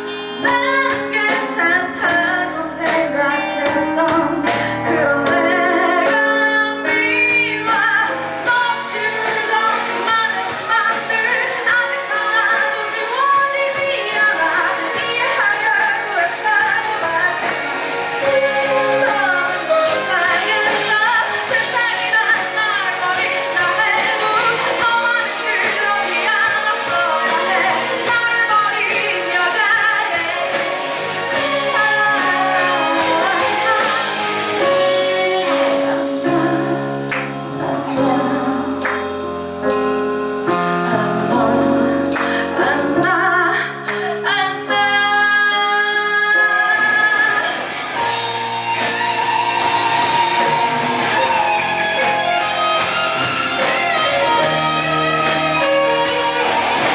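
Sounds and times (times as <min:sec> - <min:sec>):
drums: 0:00.0 - 0:56.9
guitar: 0:00.0 - 0:56.9
woman singing: 0:00.0 - 0:56.9.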